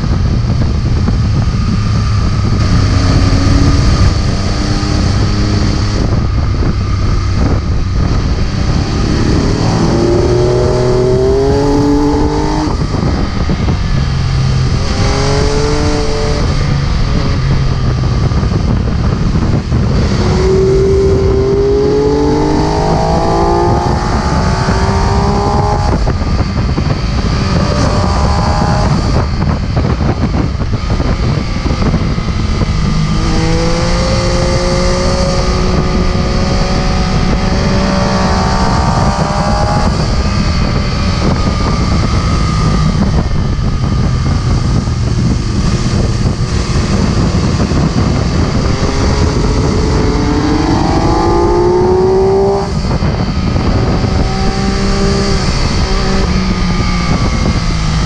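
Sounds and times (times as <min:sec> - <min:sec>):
motorcycle engine accelerating: 0:00.0 - 0:58.0
wind rush on microphone: 0:00.0 - 0:58.0.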